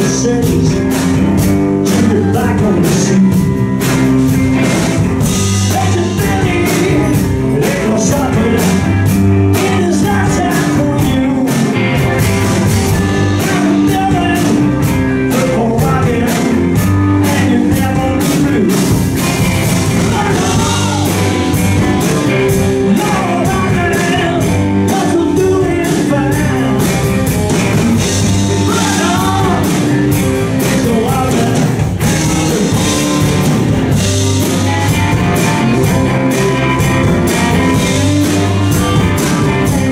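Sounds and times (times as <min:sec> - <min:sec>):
live bluesy rock band: 0:00.0 - 0:39.9
male lead singer: 0:00.0 - 0:39.9.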